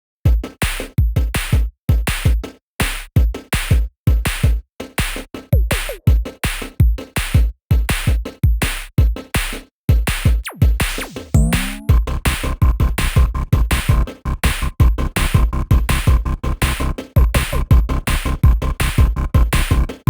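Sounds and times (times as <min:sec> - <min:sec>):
electronic music with heavy beat: 0:00.3 - 0:20.0.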